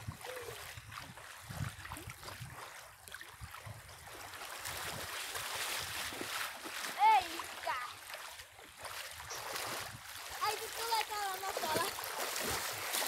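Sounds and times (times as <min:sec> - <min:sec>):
water splashing around wading legs: 0:00.0 - 0:13.0.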